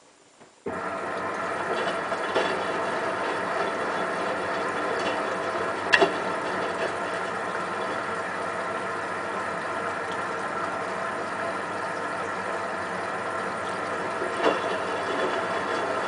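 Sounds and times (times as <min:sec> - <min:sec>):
washing machine spinning whine: 0:00.0 - 0:16.0.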